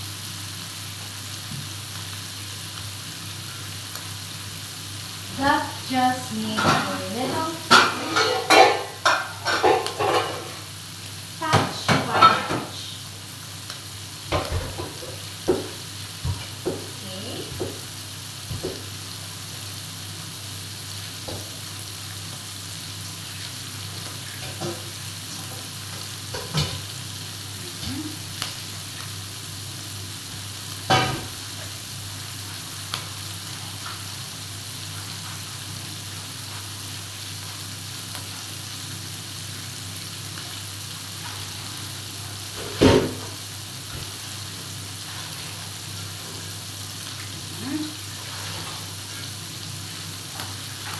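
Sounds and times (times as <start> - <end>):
food sizzling in oil: 0.0 - 50.9.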